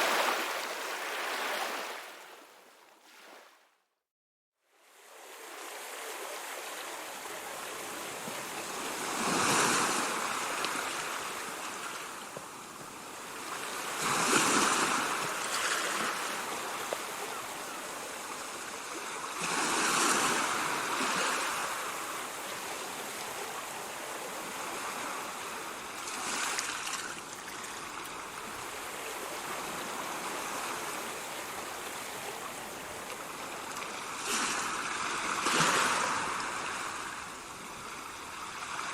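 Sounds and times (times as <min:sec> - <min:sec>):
ocean surf: 0:00.0 - 0:03.6, 0:04.9 - 0:38.9
waves breaking: 0:00.0 - 0:03.6, 0:05.0 - 0:38.9.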